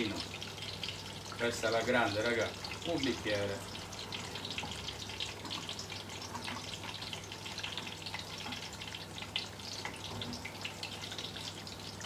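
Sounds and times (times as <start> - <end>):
vegetables frying in hot oil: 0.0 - 12.0.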